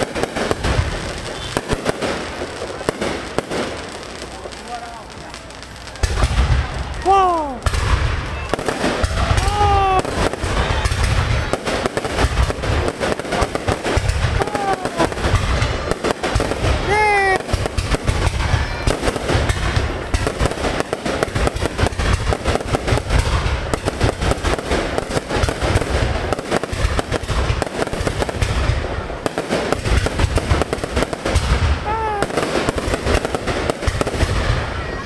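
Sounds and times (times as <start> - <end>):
fireworks booming: 0.0 - 35.0
fireworks bursting and crackling: 0.0 - 35.0.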